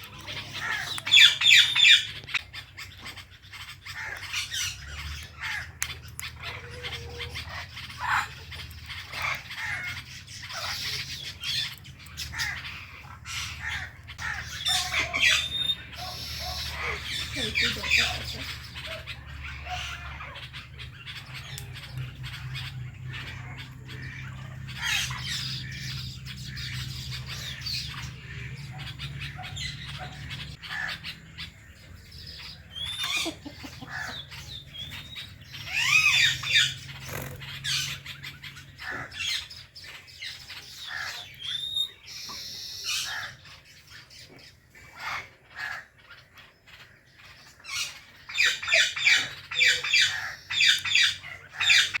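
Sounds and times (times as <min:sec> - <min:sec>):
parakeets chirping and squawking: 0:00.0 - 0:52.0.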